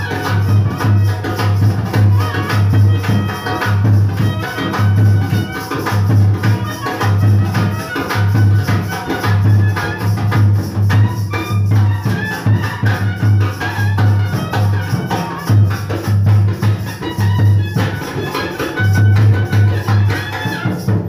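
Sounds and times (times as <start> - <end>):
shaker-like percussion: 0.0 - 21.0.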